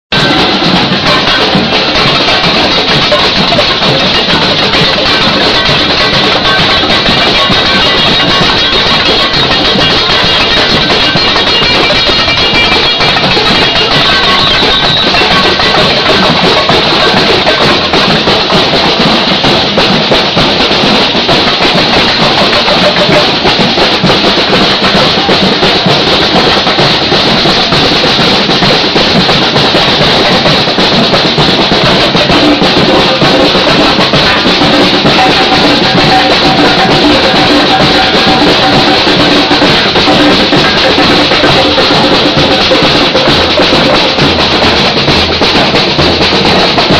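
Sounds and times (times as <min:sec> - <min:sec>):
bass drums: 0:00.1 - 0:46.9
snare drums: 0:00.1 - 0:46.9.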